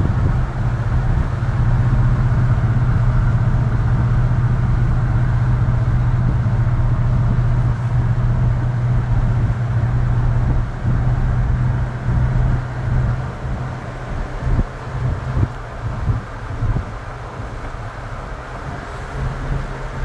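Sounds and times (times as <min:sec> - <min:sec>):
engine drone inside cab: 0:00.0 - 0:20.0
road noise: 0:00.0 - 0:20.0.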